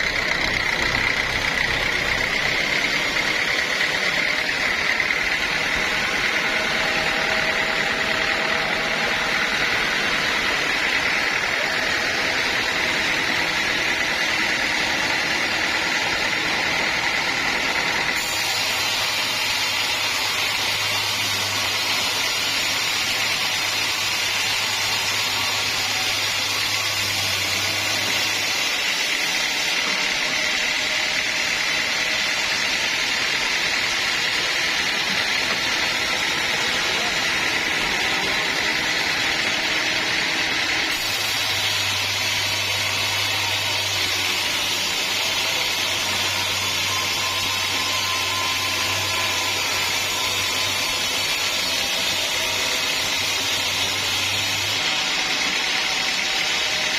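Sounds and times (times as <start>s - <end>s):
sawmill saw cutting log: 0.0s - 56.9s.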